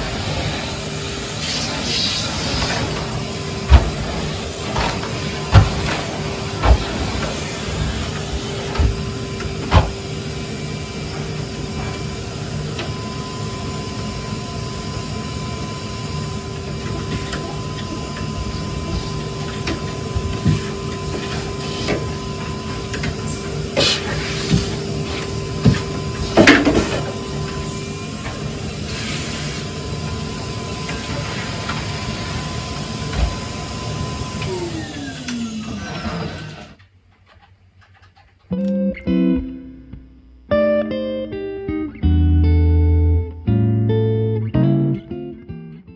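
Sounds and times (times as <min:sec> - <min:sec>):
vacuum cleaner whining: 0:00.0 - 0:43.1.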